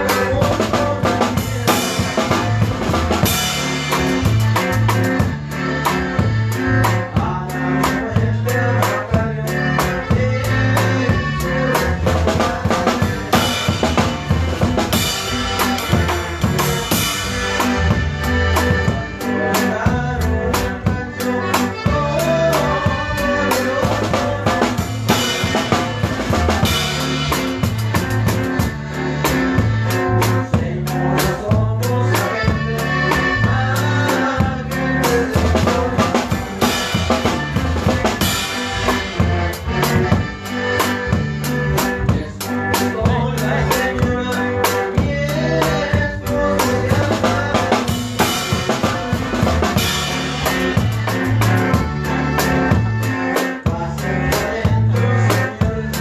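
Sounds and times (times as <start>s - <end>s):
band playing: 0.0s - 56.0s
drum kit beat: 0.0s - 56.0s.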